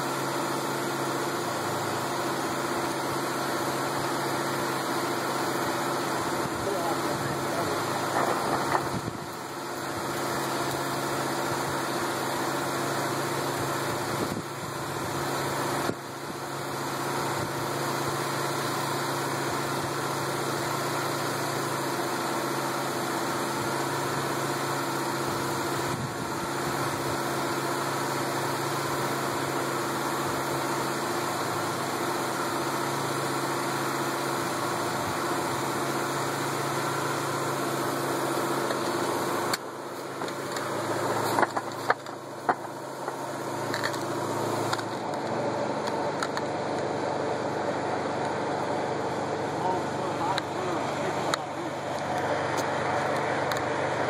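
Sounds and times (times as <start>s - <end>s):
pump humming: 0.0s - 54.0s.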